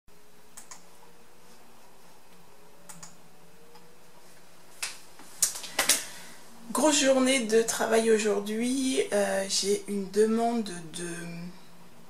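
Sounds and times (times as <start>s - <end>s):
faint hum: 0.1s - 12.0s.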